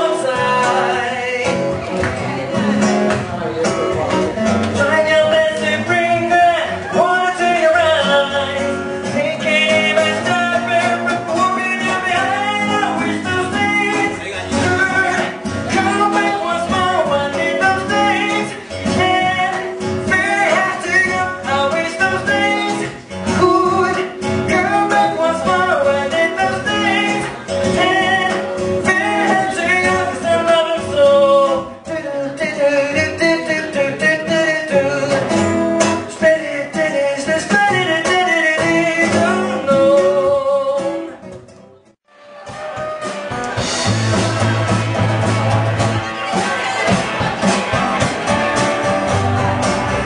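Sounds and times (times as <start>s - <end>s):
man singing into microphone: 0.0s - 2.8s, 3.5s - 41.3s
strummed acoustic guitar: 0.0s - 50.0s.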